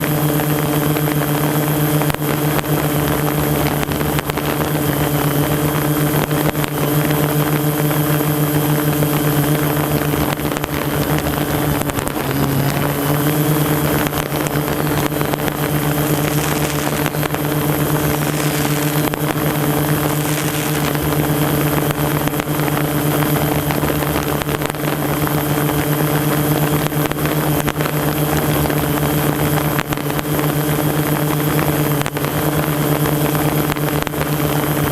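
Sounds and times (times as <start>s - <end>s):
drone propellers humming: 0.0s - 34.9s.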